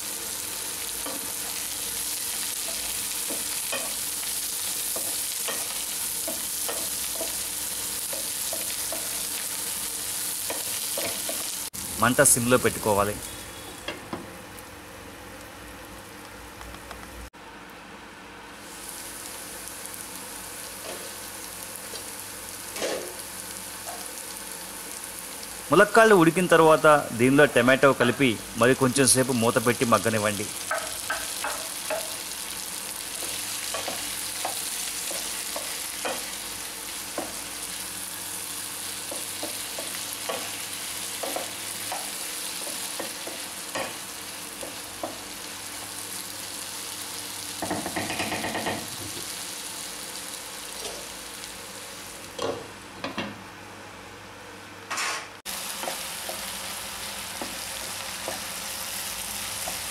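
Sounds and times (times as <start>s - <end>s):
vegetables sizzling in oil: 0.0s - 16.4s, 18.6s - 52.9s, 55.5s - 59.9s.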